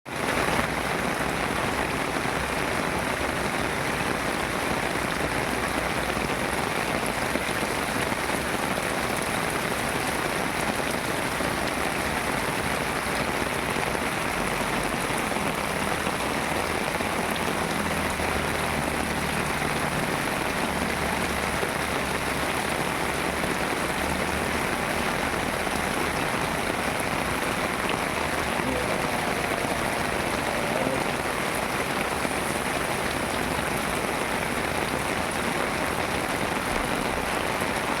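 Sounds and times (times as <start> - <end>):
heavy rain pattering: 0.1 - 38.0.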